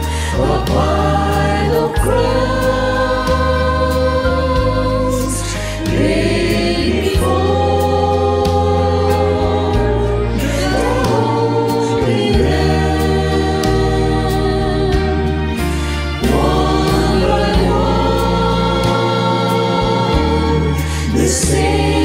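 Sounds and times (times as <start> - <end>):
low bass line: 0.0 - 22.0
mixed choir singing a hymn: 0.0 - 22.0.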